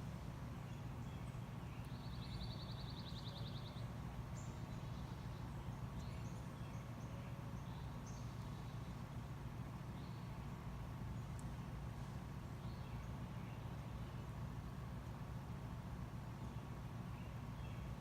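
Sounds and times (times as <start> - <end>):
songbirds trilling and chirping: 0.0 - 18.0
steady low hum: 0.0 - 18.0.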